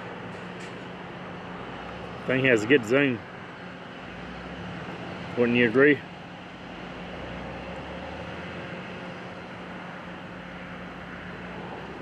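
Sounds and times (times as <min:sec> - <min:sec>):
distant road traffic: 0:00.0 - 0:12.0.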